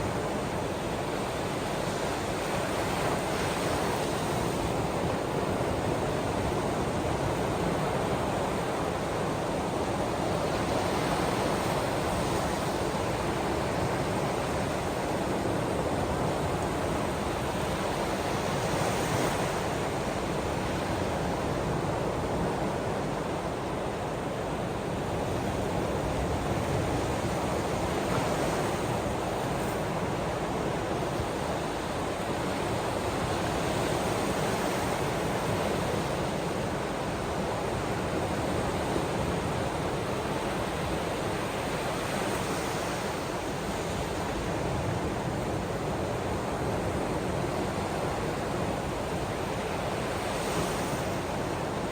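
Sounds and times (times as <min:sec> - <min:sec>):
ocean waves washing ashore: 0:00.0 - 0:51.9.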